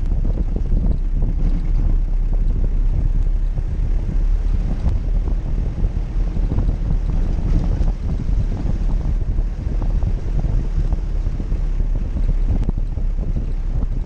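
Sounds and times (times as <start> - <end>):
engine and drivetrain rumble: 0.0 - 14.0
wind buffeting microphone: 0.0 - 14.0.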